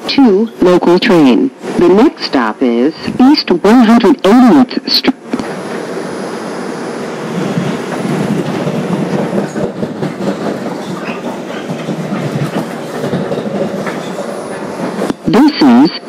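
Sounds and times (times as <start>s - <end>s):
subway wheels on rails: 0.0s - 16.0s.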